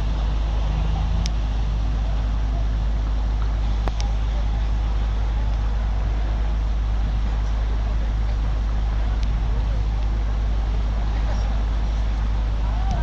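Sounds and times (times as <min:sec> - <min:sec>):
diesel machinery rumbling: 0:00.0 - 0:13.0.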